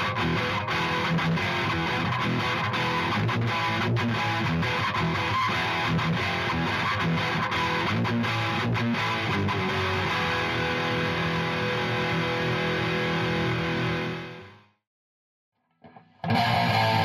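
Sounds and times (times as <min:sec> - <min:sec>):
distorted electric guitar riff: 0:00.0 - 0:14.6, 0:15.8 - 0:17.0.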